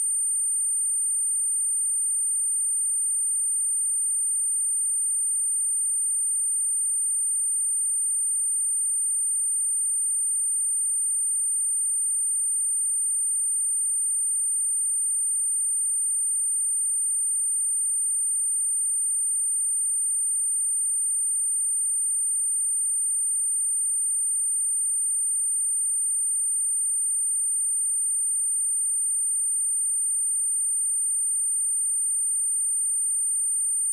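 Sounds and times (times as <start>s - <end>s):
sine wave test tone: 0.0s - 33.9s.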